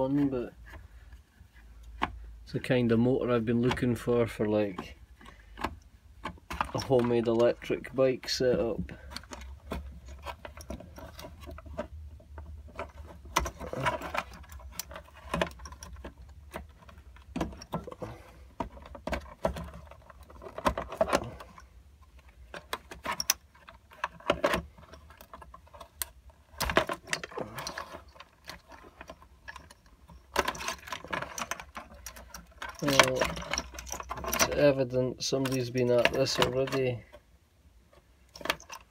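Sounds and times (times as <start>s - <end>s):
clicks taps and rustles: 0.0s - 38.9s.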